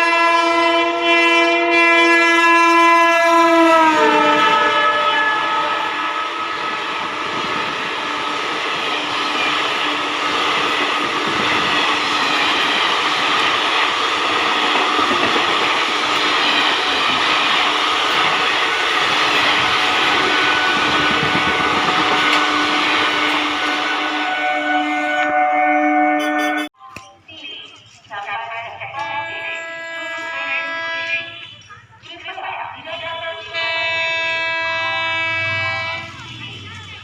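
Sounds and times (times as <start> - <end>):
train rumbling and rattling over track: 2.5 - 26.7, 27.8 - 37.0.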